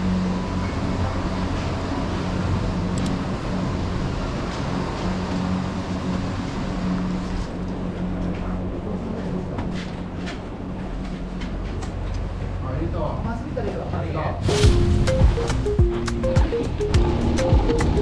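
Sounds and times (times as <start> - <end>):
vehicle rumbling: 0.0 - 12.8, 14.4 - 18.0.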